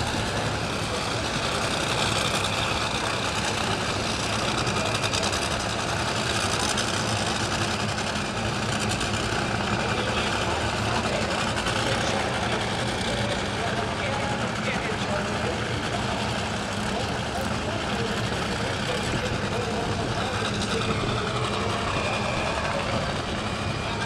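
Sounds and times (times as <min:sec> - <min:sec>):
dragster engine idling: 0:00.0 - 0:24.0.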